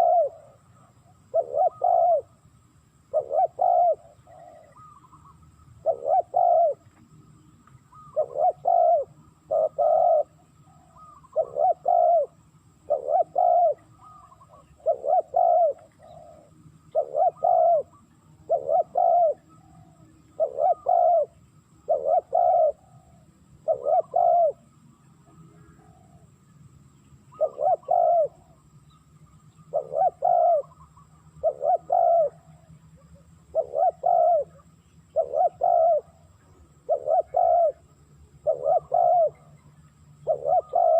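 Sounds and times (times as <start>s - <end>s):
dove cooing: 0.0s - 2.4s, 3.1s - 7.0s, 7.9s - 24.7s, 27.3s - 28.6s, 29.6s - 40.9s.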